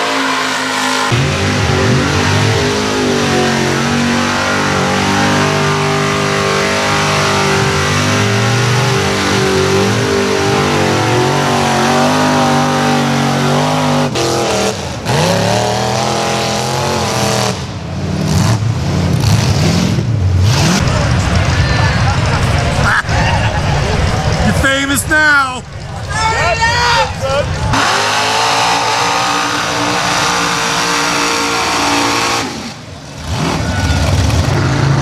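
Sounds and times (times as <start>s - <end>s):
truck engines revving hard: 0.0s - 35.0s.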